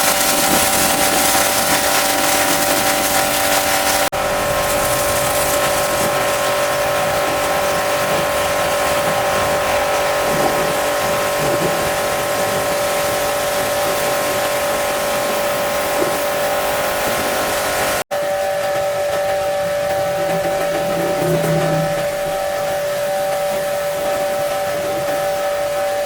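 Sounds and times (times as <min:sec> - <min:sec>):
pressure washer running: 0:00.0 - 0:26.0.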